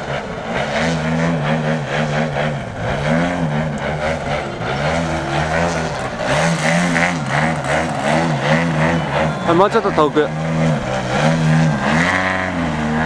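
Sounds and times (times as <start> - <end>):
model airplane engine and propeller: 0.0 - 13.0.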